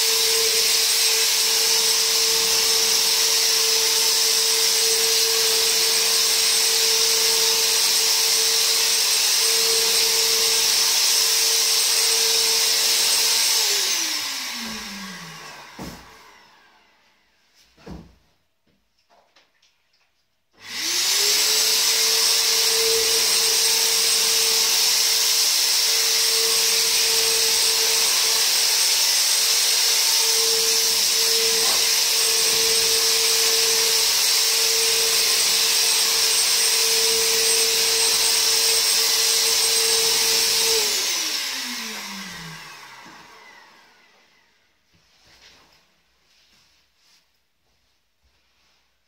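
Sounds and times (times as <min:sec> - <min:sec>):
electric fogger motor whine and hiss: 0:00.0 - 0:17.3, 0:20.6 - 0:44.6.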